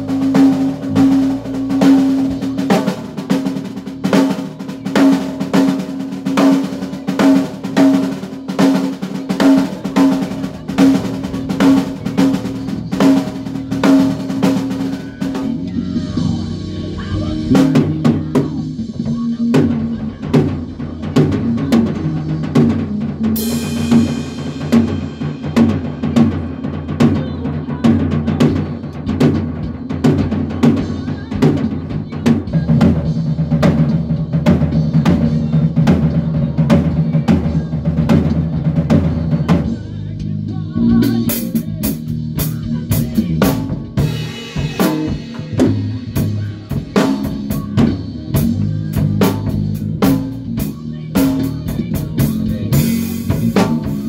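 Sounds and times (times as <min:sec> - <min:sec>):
bass line: 0:00.0 - 0:54.0
drum kit playing a beat: 0:00.0 - 0:54.0.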